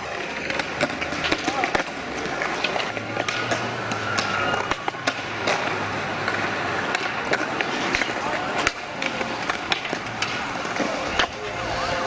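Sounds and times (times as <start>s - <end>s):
skateboard wheels rumbling: 0.0s - 12.0s
skateboards clacking on concrete: 0.0s - 12.0s.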